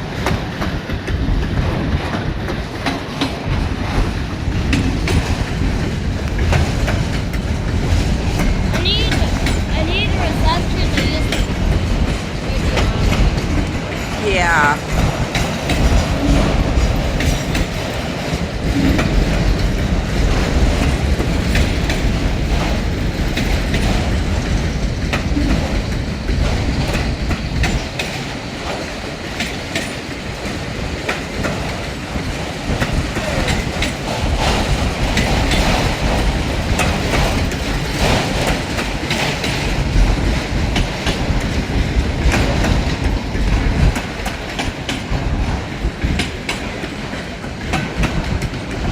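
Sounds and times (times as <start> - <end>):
train wheels clicking over rail joints: 0.0 - 48.9.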